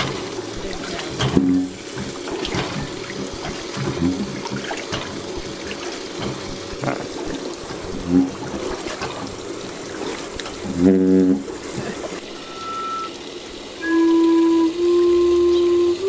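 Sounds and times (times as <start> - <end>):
water trickling into fountain pool: 0.0 - 16.0.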